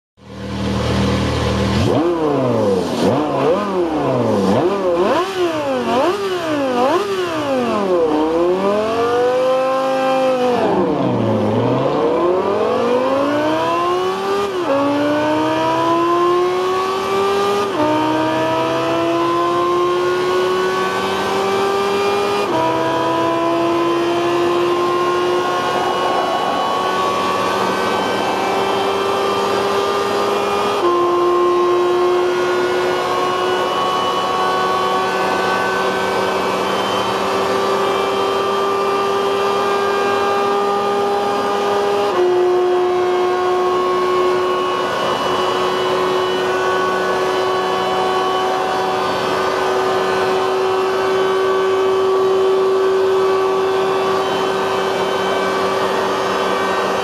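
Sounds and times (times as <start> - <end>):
supercar engine accelerating: 0.2 - 57.0.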